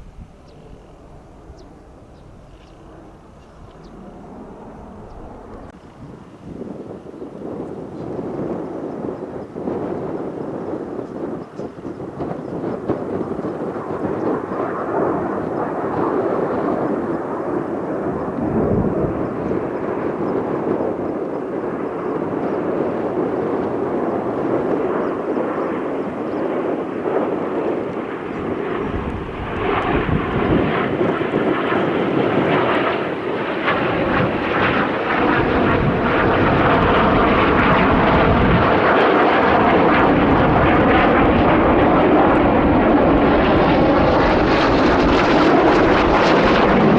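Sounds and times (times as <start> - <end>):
jet engines passing overhead: 0.0 - 46.9.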